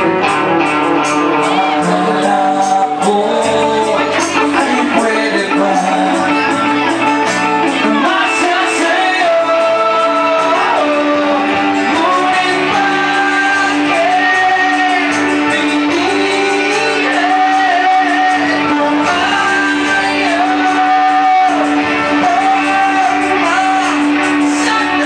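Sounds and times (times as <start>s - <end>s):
acoustic guitar: 0.0s - 25.0s
person singing: 0.0s - 25.0s.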